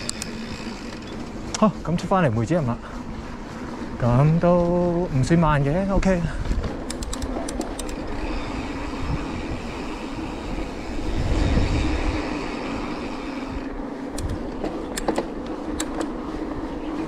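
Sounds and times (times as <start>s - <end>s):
bike clicks and rattles: 0.0s - 17.0s
bike tyres rolling: 0.0s - 17.0s
low rumble: 2.8s - 17.0s.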